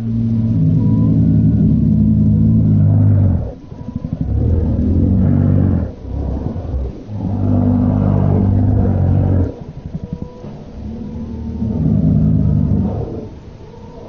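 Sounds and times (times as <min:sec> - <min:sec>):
deep animal bellows: 0:00.0 - 0:14.0
pulsing rattling growl: 0:00.0 - 0:14.0.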